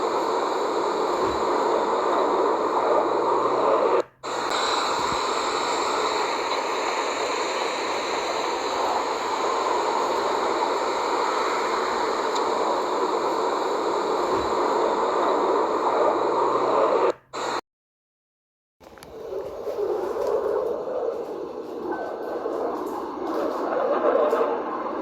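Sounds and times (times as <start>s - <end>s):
fighter jet engines roaring: 0.0s - 17.1s, 19.5s - 25.0s.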